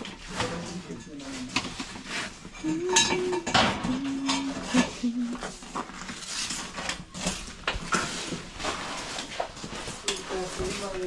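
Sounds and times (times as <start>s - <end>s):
objects knocking and clattering: 0.0s - 11.0s.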